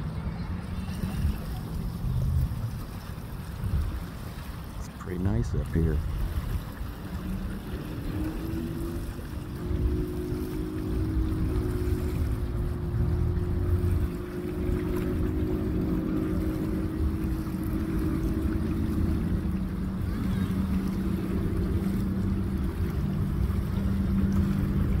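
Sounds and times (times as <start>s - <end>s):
motorboat engine humming: 0.0s - 25.0s
waves lapping on shore: 0.0s - 25.0s.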